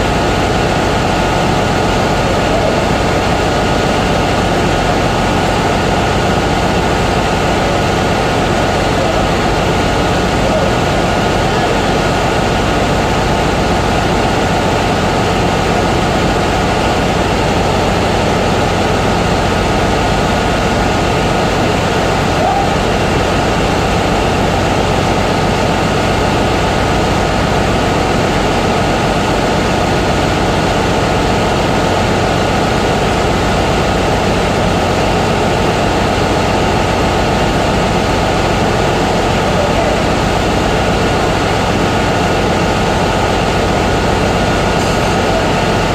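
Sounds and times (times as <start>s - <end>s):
machinery drone: 0.0s - 45.9s.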